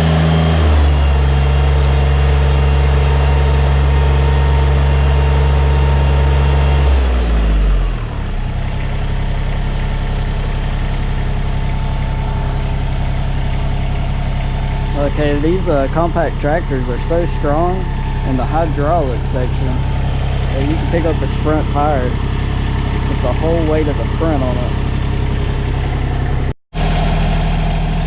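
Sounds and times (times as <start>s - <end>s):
tractor diesel engine: 0.0s - 28.0s.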